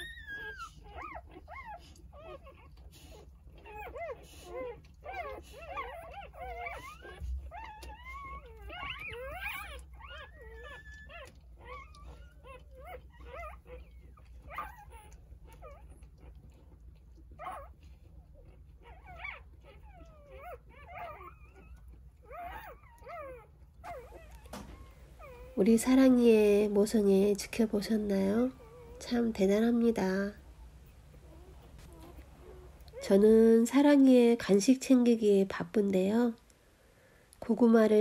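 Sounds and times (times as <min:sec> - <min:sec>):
puppies squeaking and whimpering: 0:00.0 - 0:34.0.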